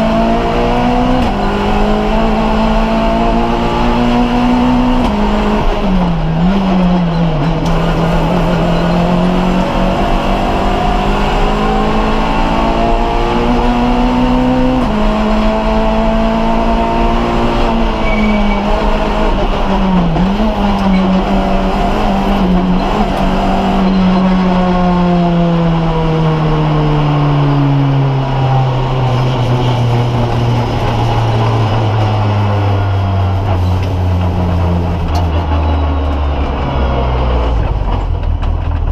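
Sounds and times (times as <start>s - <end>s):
rally car engine at high revs: 0.0s - 38.9s.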